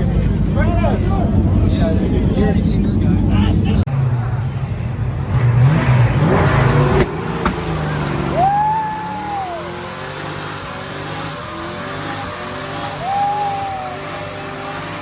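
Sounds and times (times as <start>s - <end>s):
car engine revving: 0.3s - 15.0s.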